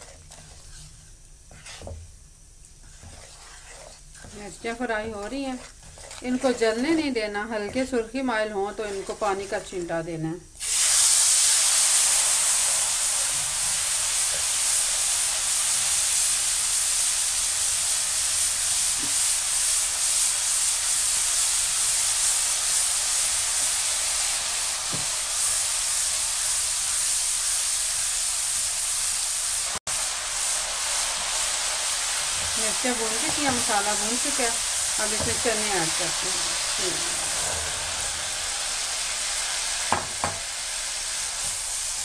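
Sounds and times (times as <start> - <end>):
oil and spices sizzling in a wok: 0.0 - 42.0.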